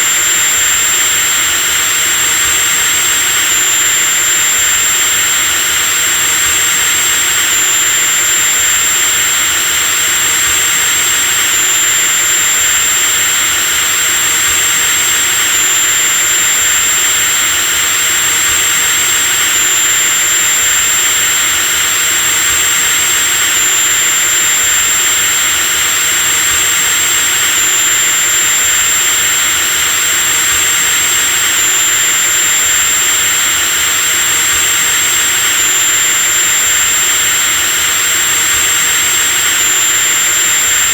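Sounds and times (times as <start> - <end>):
electric drill whirring: 0.0 - 40.9.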